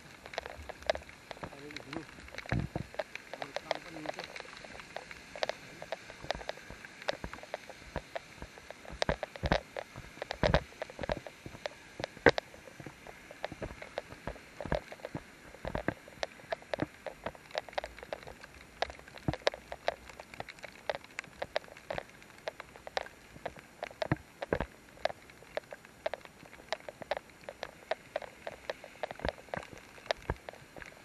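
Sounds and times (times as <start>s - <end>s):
raindrops pattering: 0.0s - 31.0s.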